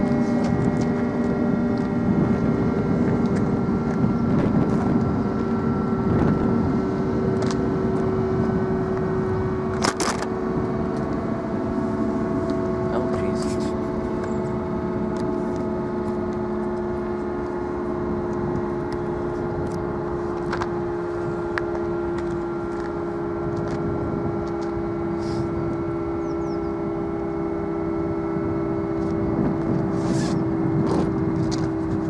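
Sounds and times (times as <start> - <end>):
siren steady tone: 0.0 - 32.0.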